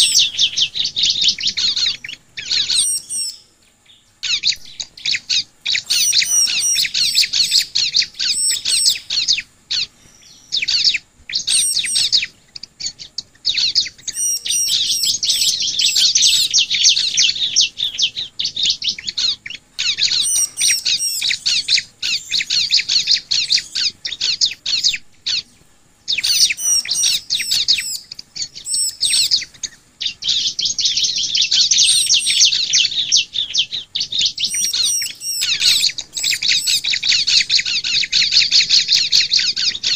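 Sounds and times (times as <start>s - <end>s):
birds rapid high chirping: 0.0s - 39.9s.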